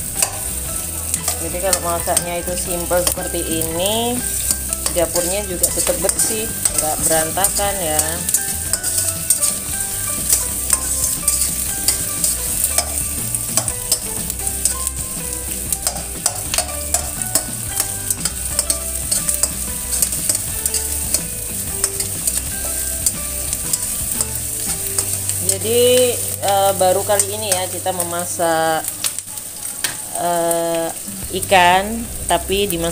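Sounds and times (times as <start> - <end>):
spatula scraping wok: 0.0 - 30.2
vegetables sizzling in hot oil: 0.0 - 32.9.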